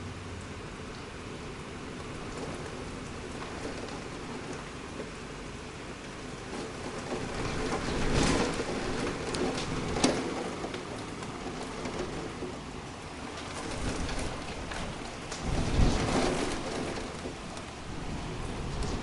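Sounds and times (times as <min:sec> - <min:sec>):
heavy rain falling: 0:00.0 - 0:19.0
thunder crackling: 0:00.0 - 0:19.0.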